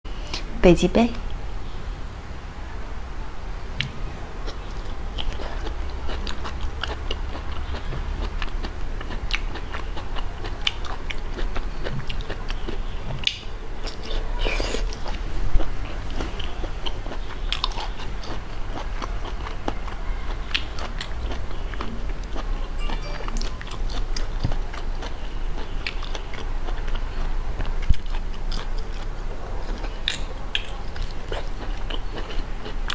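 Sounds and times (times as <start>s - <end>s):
low steady hum: 0.1s - 32.9s
person chewing crunchy food: 3.8s - 32.9s.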